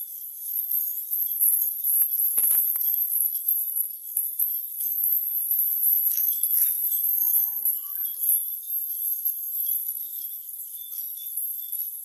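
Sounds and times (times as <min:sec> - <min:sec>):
small bells jingling: 0:00.0 - 0:12.0.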